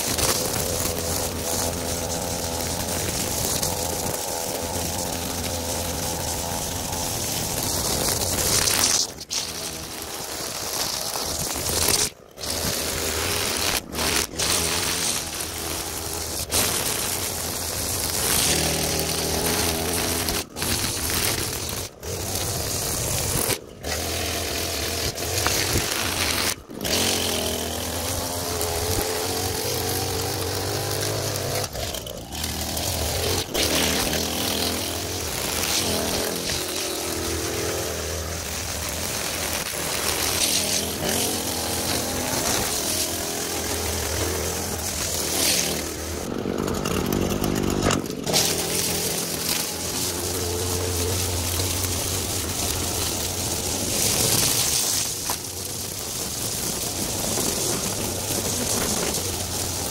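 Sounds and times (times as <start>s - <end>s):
string trimmer cutting grass: 0.0s - 59.9s.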